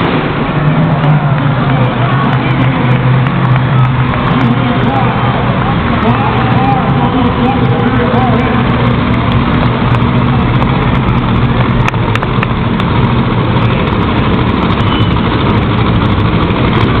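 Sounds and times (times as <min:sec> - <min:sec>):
monster truck engines running: 0:00.0 - 0:17.0.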